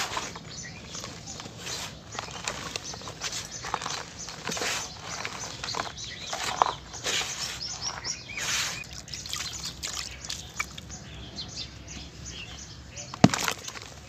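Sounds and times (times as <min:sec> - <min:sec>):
soft cement crackling and crunching: 0:00.0 - 0:11.2, 0:12.9 - 0:14.0.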